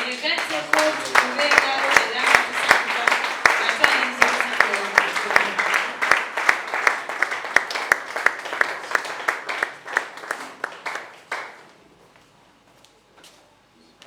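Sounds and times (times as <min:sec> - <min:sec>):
crowd applauding: 0:00.0 - 0:11.8
loud rhythmic claps: 0:00.0 - 0:11.8.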